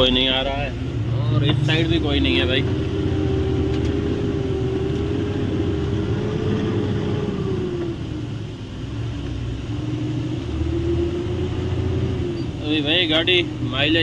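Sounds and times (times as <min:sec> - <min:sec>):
road noise: 0:00.0 - 0:14.0
truck engine drone from cab: 0:00.0 - 0:14.0.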